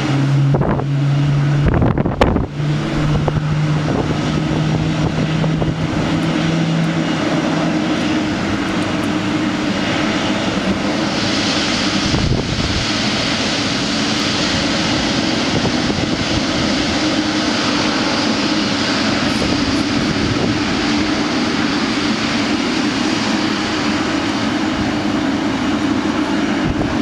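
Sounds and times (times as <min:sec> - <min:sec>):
constant low hum: 0:00.0 - 0:27.0
jet engines running: 0:00.0 - 0:27.0.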